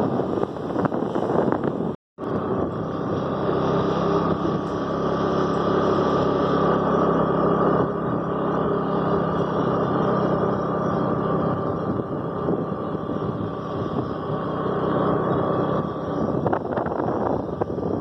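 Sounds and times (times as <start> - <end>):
scooter engine running: 0.0 - 18.0
wind and tyre noise: 0.0 - 18.0.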